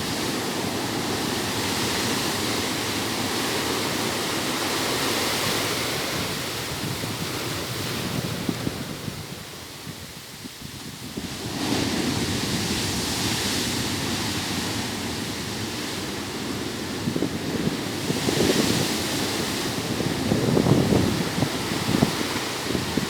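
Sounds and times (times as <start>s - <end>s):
ocean waves breaking: 0.0s - 9.1s, 11.4s - 23.0s
wind buffeting microphone: 0.0s - 23.0s.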